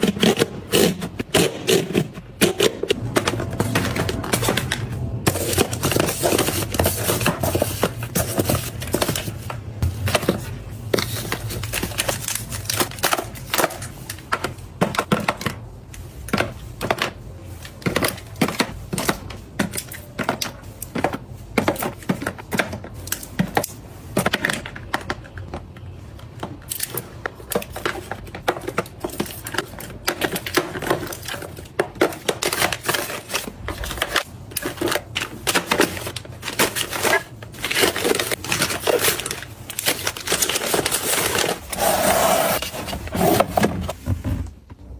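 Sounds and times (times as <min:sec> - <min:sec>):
items tapping into plastic bin: 0:00.0 - 0:41.6.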